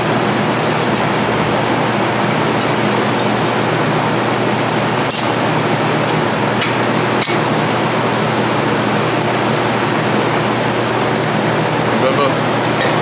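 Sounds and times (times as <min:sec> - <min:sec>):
workshop background hiss: 0:00.0 - 0:13.0.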